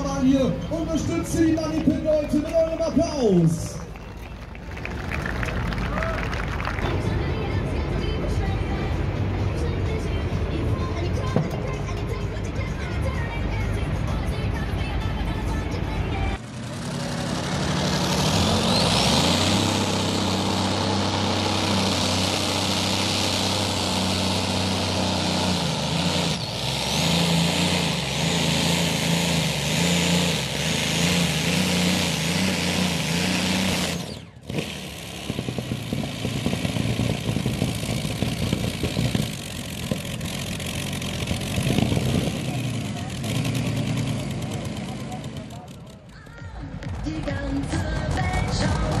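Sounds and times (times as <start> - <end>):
rough engine sound: 0.0 - 49.0
tractor engine running hard: 0.0 - 49.0.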